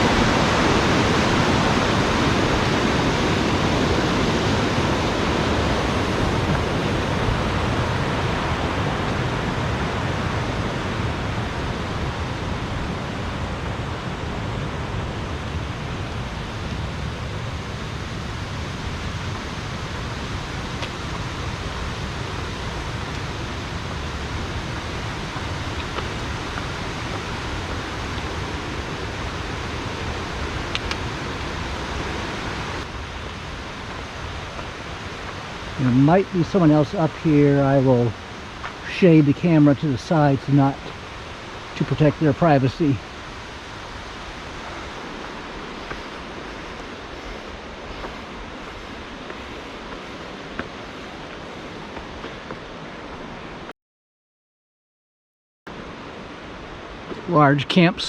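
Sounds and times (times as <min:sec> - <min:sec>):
stream water rushing: 0:00.0 - 0:53.7, 0:55.7 - 0:58.0.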